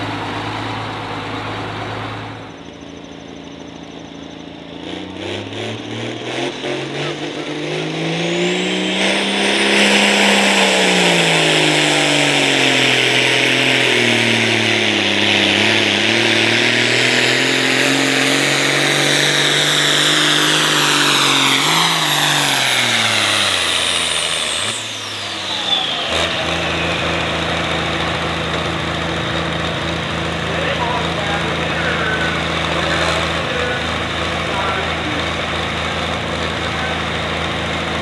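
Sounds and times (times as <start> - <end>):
tractor diesel engine: 0.0 - 38.0
turbo whine: 0.0 - 38.0.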